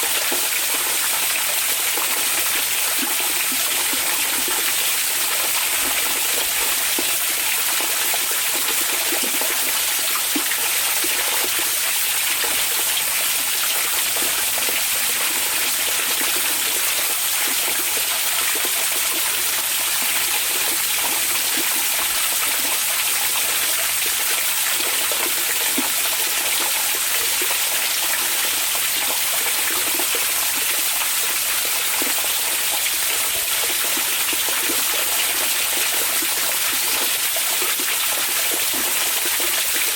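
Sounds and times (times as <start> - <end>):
water pouring into a bath: 0.0 - 39.9.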